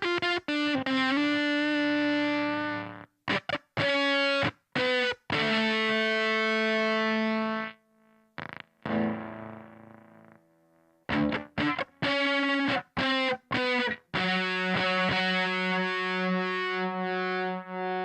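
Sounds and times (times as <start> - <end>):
fuzzed electric guitar notes: 0.0 - 18.0.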